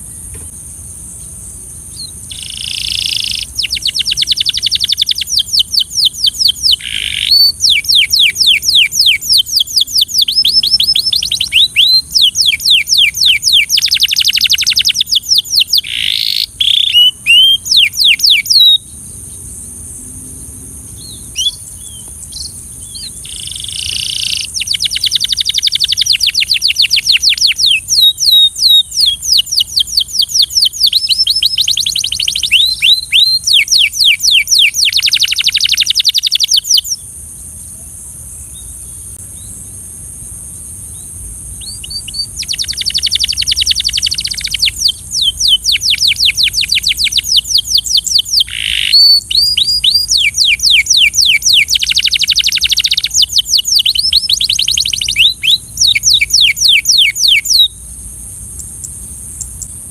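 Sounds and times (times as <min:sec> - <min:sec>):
canary singing trills: 0:01.9 - 0:19.5, 0:20.5 - 0:37.1, 0:40.9 - 0:59.9.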